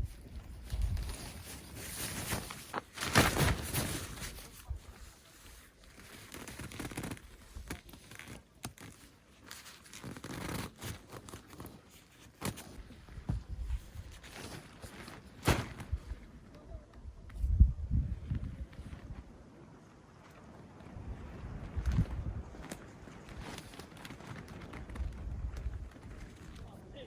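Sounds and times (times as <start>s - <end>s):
rustling and scraping: 0.0s - 17.6s, 20.2s - 26.9s.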